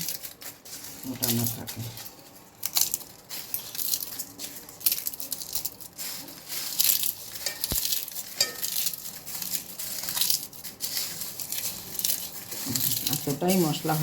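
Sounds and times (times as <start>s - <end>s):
dry spices rustling and crackling: 0.0s - 14.0s.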